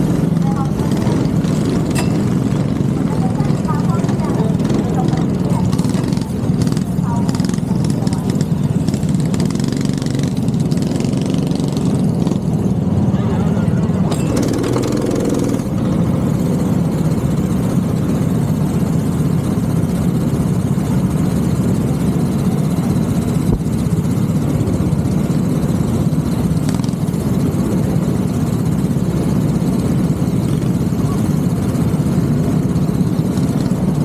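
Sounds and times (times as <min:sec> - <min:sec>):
go-kart engine running: 0:00.0 - 0:34.0.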